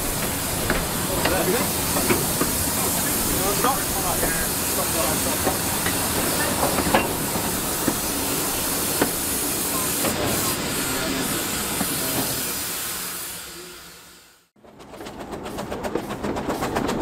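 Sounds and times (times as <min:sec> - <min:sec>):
steam hissing: 0:00.0 - 0:14.5.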